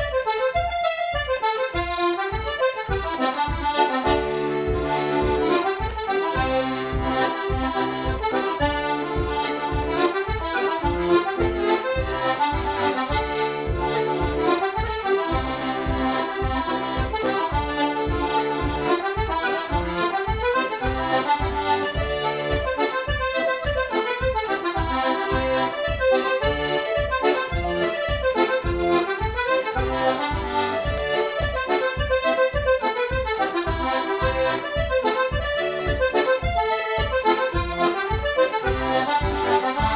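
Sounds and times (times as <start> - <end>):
button accordion playing a reel: 0.0 - 39.9.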